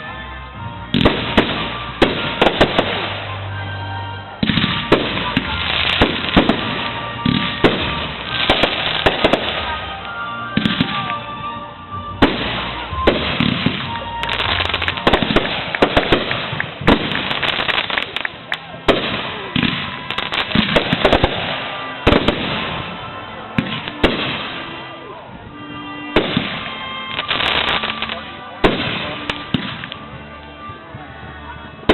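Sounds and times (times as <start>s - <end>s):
fireworks crackling: 0.0s - 30.6s
fireworks bursting with loud bangs: 0.8s - 3.5s, 4.4s - 11.5s, 12.1s - 24.8s, 26.0s - 30.1s.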